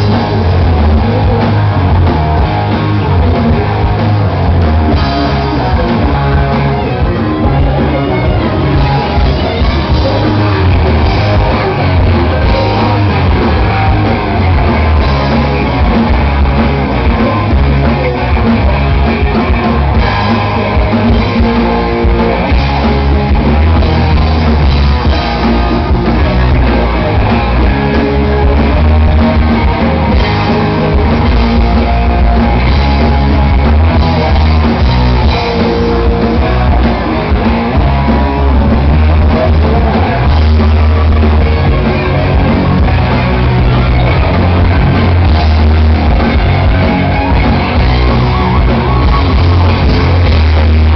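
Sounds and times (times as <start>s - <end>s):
bass guitar: 0.0s - 50.9s
distorted electric guitars: 0.0s - 50.9s
drum kit: 0.0s - 50.9s
shouted vocals: 4.6s - 50.9s.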